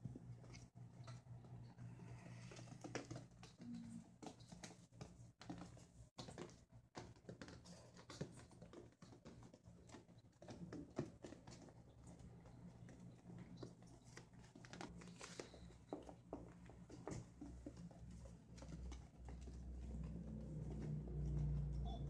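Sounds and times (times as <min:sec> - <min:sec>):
puppies scratching and tapping: 0:00.0 - 0:22.0.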